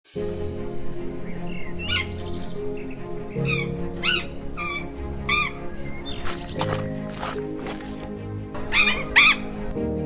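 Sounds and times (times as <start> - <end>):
background music with held notes: 0.1 - 10.0.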